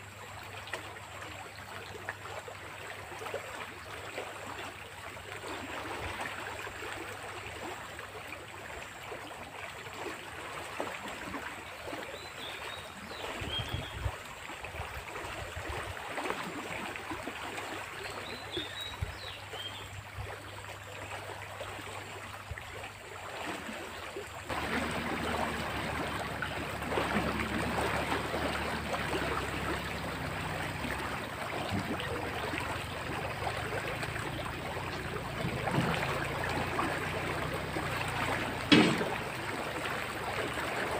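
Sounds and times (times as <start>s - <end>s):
floodwater rushing in a drain: 0.0s - 40.9s.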